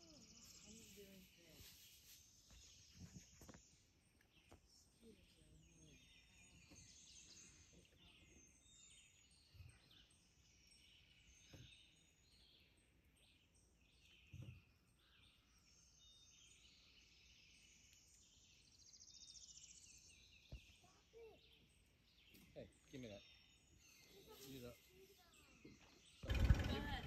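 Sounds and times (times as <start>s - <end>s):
birds chirping and trilling: 0.0s - 27.0s.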